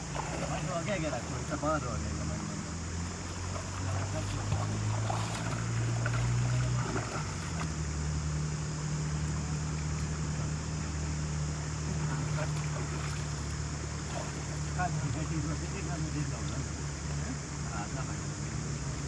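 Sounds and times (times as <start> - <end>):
constant hiss of water or wind: 0.0 - 19.0
small engine running: 0.0 - 19.0.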